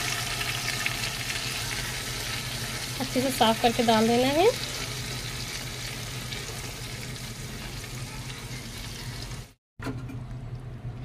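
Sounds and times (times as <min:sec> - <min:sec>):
chicken sizzling in hot oil: 0:00.0 - 0:09.6.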